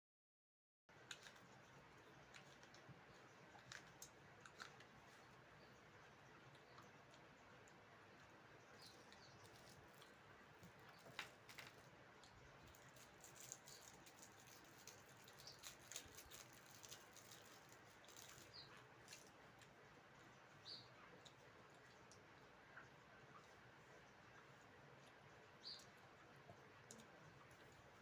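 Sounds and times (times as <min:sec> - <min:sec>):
faint clicks and ticks: 0:00.9 - 0:28.0.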